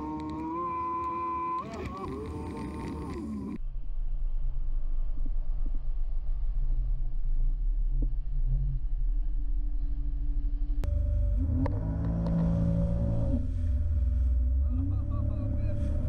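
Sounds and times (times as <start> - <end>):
jet ski engine low rumble: 0.0 - 16.0.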